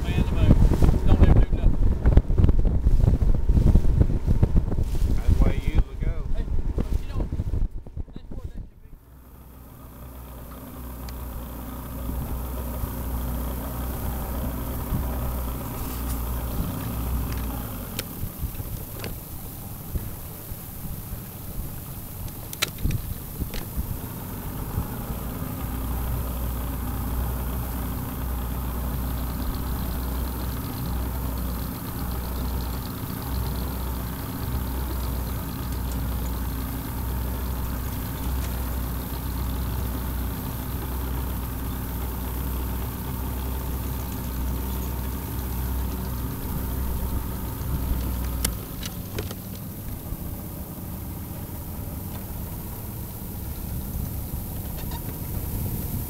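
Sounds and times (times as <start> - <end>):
engine running hum: 0.0 - 56.0.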